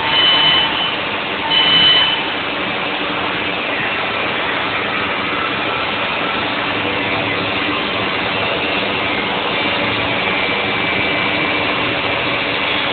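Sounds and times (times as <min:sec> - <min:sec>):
faint steady whine: 0:00.0 - 0:12.9.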